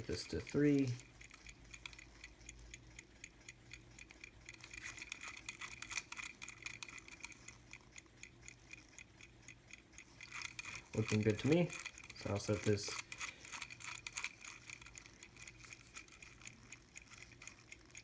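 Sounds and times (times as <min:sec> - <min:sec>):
pocket watch ticking: 0:00.0 - 0:18.0.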